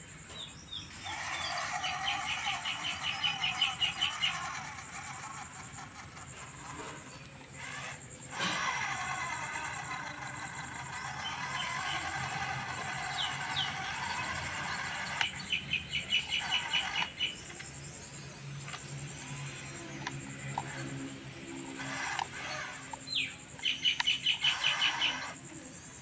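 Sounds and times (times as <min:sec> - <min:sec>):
small birds chirping: 0:00.0 - 0:26.0
steady background hum: 0:00.0 - 0:26.0.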